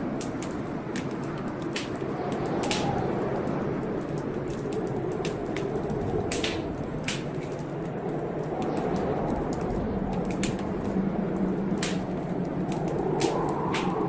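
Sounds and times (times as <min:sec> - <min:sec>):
fire crackling and popping: 0:00.0 - 0:14.0
storm rushing: 0:00.0 - 0:14.0.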